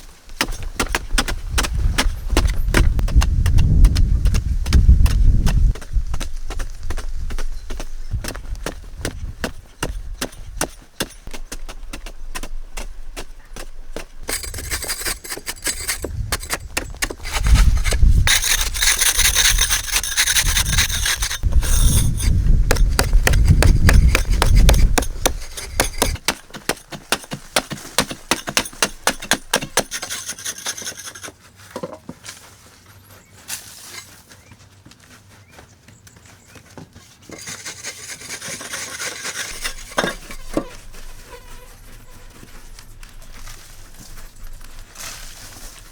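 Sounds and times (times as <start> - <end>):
hand tool scraping wood: 0.0 - 32.1, 37.2 - 45.9.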